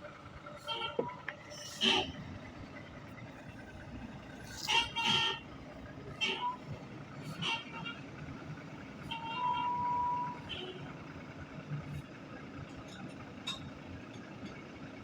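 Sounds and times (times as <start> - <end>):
truck engine rumble: 0.0 - 15.0.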